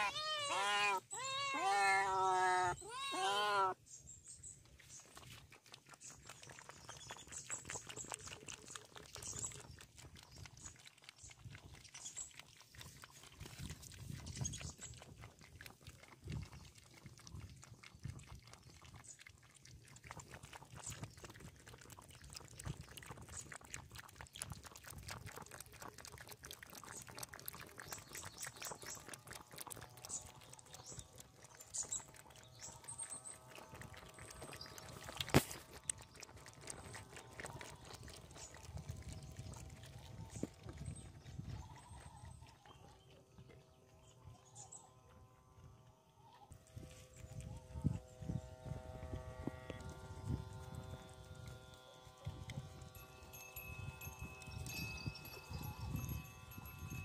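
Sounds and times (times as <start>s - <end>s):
cats lapping from metal bowl: 4.6s - 45.8s, 46.6s - 57.0s.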